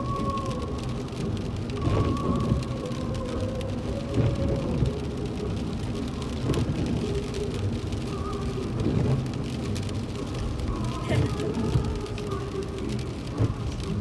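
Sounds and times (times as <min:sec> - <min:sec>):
rain hitting windshield: 0:00.0 - 0:14.0.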